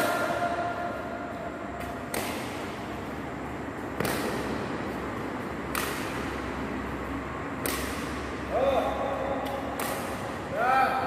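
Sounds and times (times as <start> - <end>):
racket hitting shuttlecock: 0.0 - 10.6.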